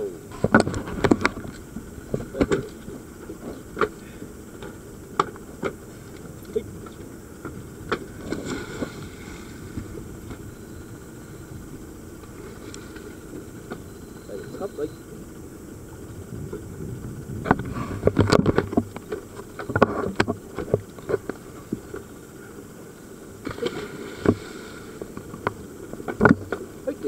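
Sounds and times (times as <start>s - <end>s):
boat engine rumble: 0.0s - 27.0s.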